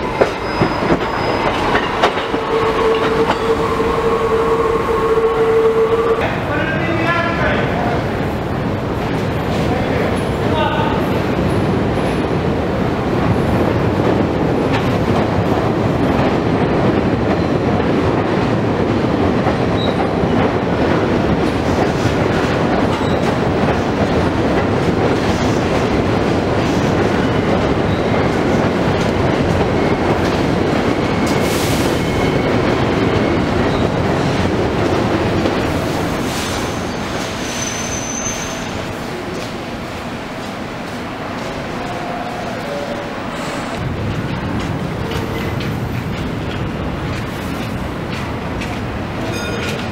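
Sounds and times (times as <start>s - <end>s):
subway train wheels rumbling on rails: 0.0s - 49.9s.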